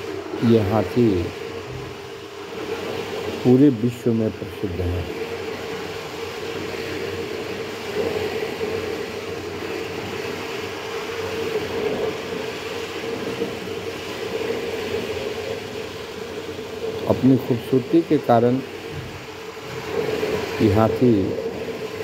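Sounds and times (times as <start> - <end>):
background hum with hiss: 0.0 - 22.0.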